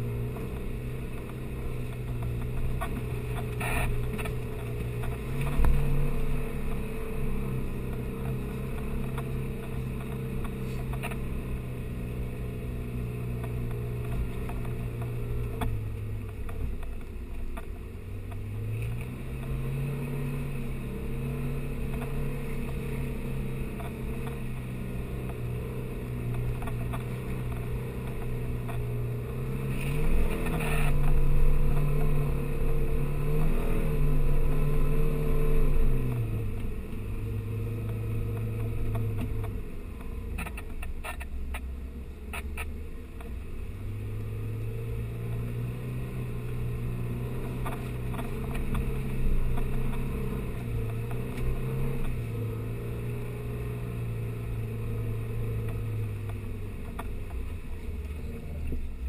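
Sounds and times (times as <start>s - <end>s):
off-road engine revving: 0.0s - 59.0s.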